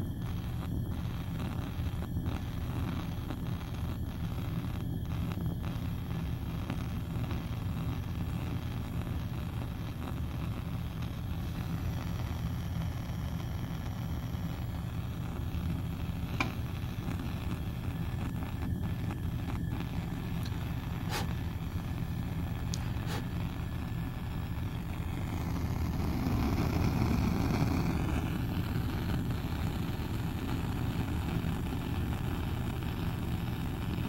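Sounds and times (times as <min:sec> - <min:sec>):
burner flame rumbling: 0:00.0 - 0:34.0.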